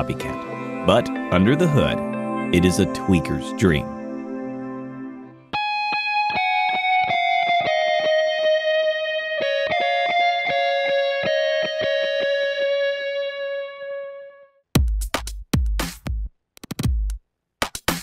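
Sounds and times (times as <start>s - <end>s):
electric guitar with tape echo: 0.0s - 14.5s.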